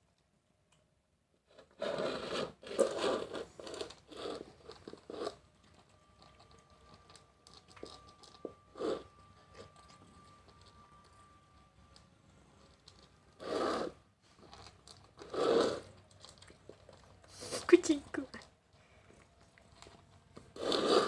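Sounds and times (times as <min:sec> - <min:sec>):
cats crunching food: 0:01.5 - 0:21.0
cats chewing: 0:02.8 - 0:21.0.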